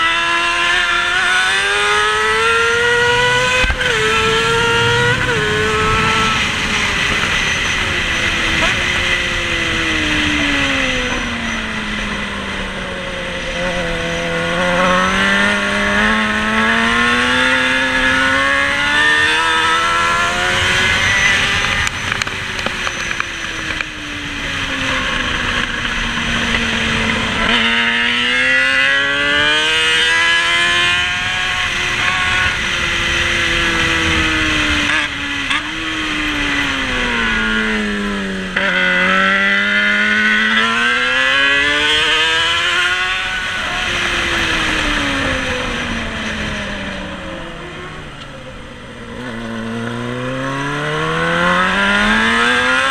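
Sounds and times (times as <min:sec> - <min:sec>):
racing motorcycle engine: 0:00.0 - 0:52.9.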